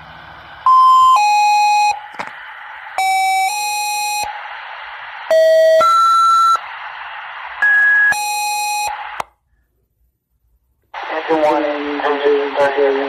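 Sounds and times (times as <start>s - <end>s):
radio hiss: 0.3s - 9.2s, 10.9s - 13.0s.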